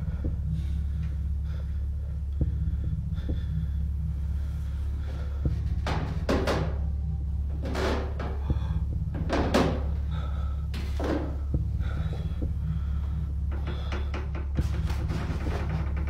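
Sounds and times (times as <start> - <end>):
heavy breathing: 0.0 - 16.0
low hum: 0.0 - 16.0.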